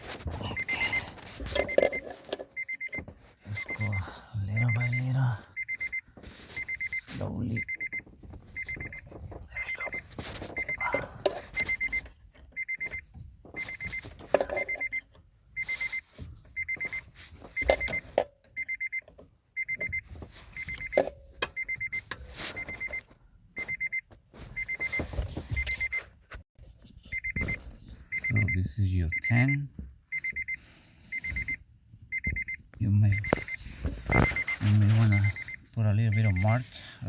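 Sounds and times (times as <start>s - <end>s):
car warning chime beeping: 0.2s - 26.1s, 27.1s - 37.0s.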